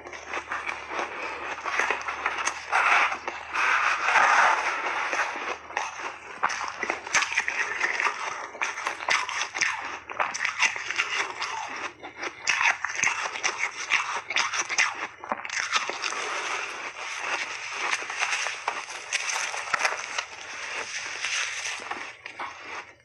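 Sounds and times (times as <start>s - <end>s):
crunching of chewed ice: 0.0s - 23.0s.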